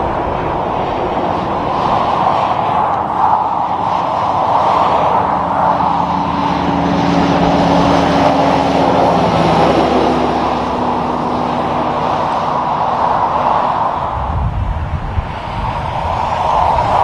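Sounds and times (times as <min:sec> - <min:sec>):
highway traffic noise: 0:00.0 - 0:17.0
truck passing: 0:00.0 - 0:17.0.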